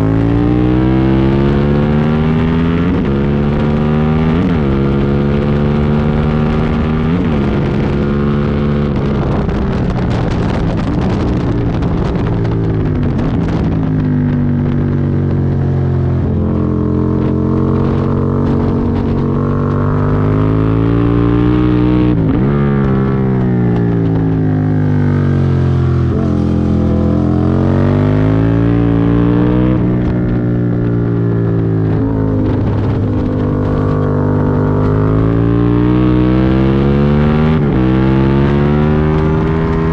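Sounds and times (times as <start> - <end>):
motorcycle engine revving at speed: 0.0 - 39.9.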